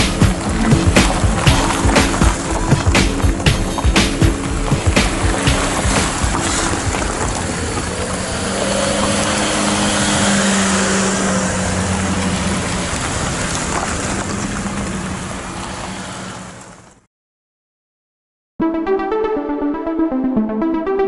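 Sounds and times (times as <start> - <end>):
car engines driving past: 0.0 - 17.0
tyres on gravel: 0.0 - 17.0.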